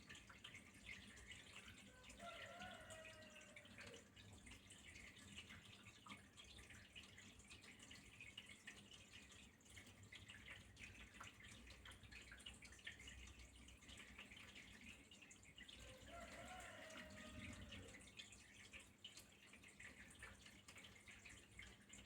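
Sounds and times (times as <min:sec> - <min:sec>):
water trickling and dripping: 0:00.0 - 0:22.0.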